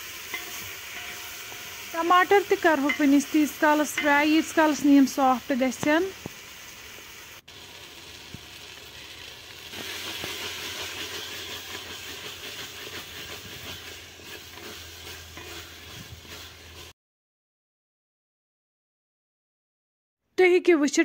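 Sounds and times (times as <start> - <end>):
food sizzling in a metal pot: 0.0 - 17.0.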